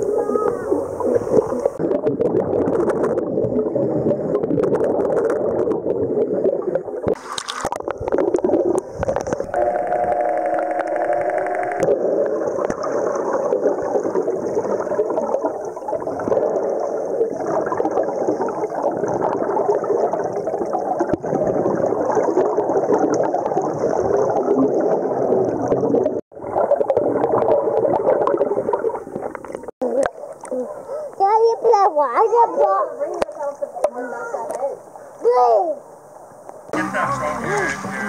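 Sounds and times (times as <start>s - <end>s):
pool water gurgling and churning: 0.0s - 38.0s.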